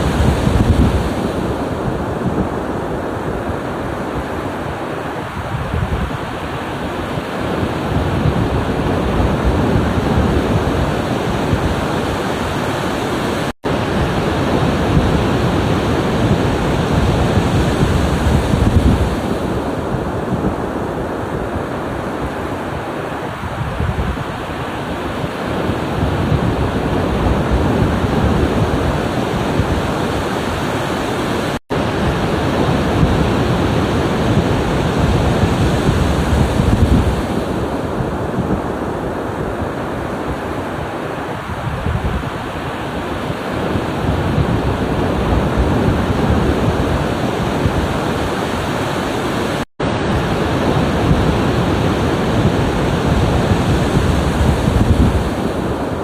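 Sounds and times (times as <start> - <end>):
ocean waves washing in: 0.0 - 56.0
wind buffeting microphone: 0.0 - 56.0.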